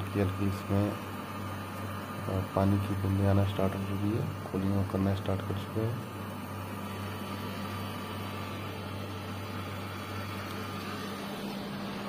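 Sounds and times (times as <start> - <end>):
air conditioner blower running: 0.0 - 12.0.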